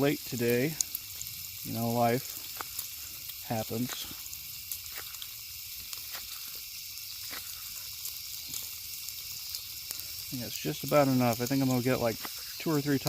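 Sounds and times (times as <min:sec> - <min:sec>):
bacon sizzling over a campfire: 0:00.0 - 0:13.0.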